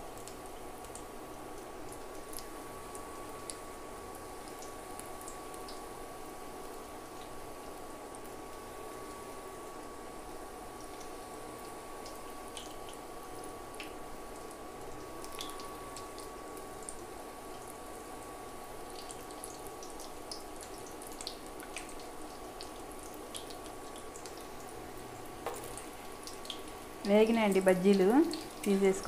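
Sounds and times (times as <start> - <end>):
deep-frying sizzle in hot oil: 0.0 - 29.0.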